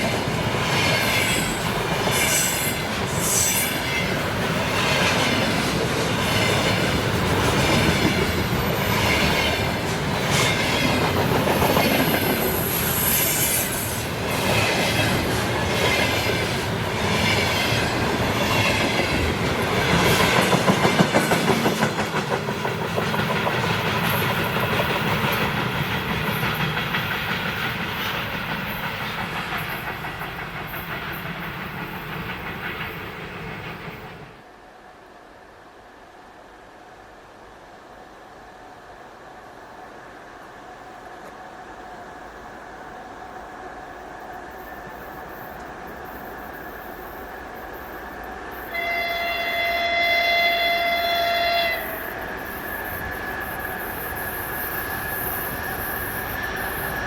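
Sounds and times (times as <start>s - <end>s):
train wheels clattering on rails: 0.0s - 34.4s, 44.5s - 57.0s.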